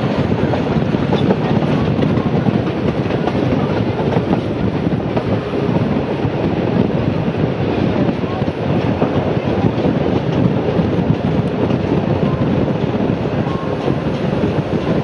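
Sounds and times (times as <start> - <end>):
rail joint clicks: 0.0 - 5.6, 6.2 - 15.0
train wheels rumbling: 0.0 - 15.0.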